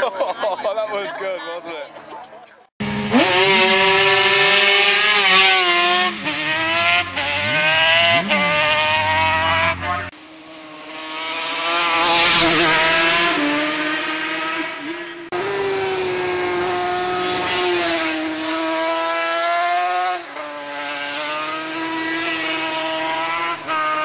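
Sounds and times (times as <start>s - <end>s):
racing motorcycle engine passing: 2.8s - 24.0s.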